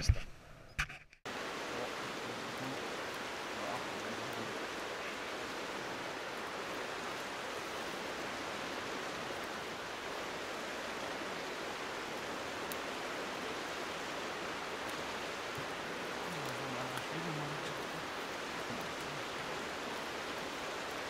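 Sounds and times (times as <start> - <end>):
campfire crackling: 1.2 - 21.0
water rushing: 1.3 - 21.0.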